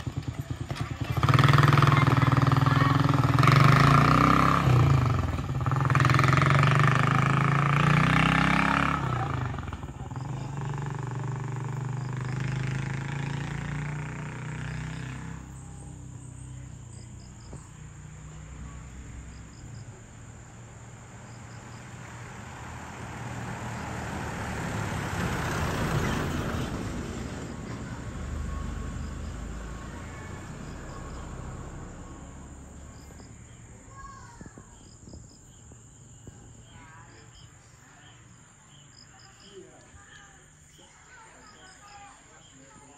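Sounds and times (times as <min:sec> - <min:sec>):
vehicle passing on road: 0:00.0 - 0:42.9
insects buzzing: 0:01.4 - 0:42.9.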